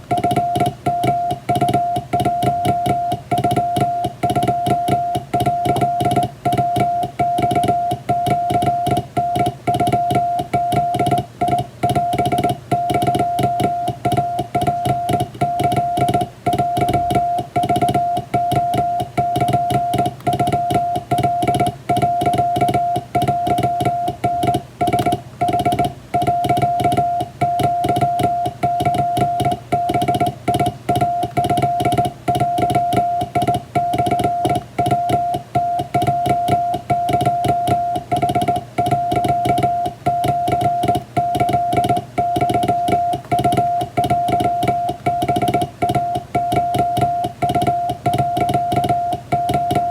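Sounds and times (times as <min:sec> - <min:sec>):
morse code tone on telegraph key: 0:00.0 - 0:49.9.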